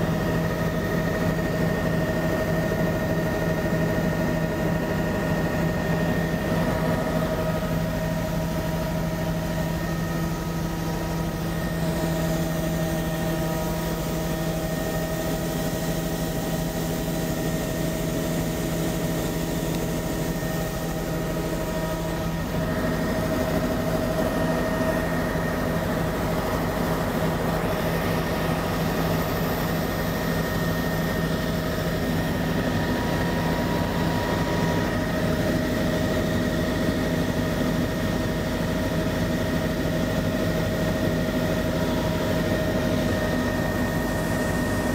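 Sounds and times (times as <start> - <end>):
propeller aircraft engine in cabin: 0.0 - 44.9.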